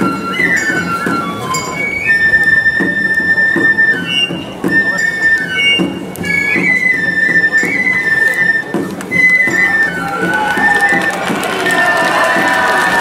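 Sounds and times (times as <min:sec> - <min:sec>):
drum beating: 0:00.0 - 0:13.0
shrill flute playing long notes: 0:00.0 - 0:13.0.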